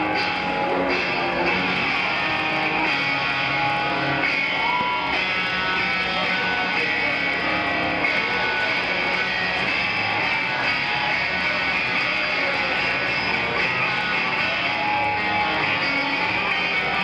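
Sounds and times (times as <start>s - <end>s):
electric guitar solo: 0.0s - 17.0s.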